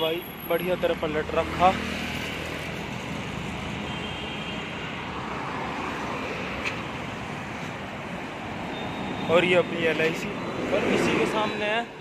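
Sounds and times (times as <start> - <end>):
passing cars and motorbikes: 0.0 - 12.0
road traffic noise: 0.0 - 12.0.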